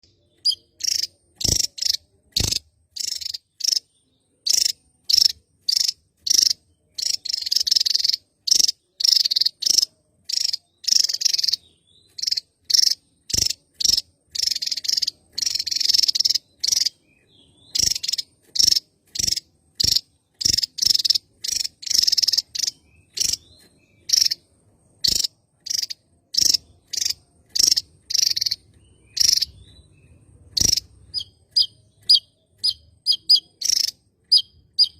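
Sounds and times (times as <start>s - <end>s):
bird high sharp calls: 0.0s - 34.9s.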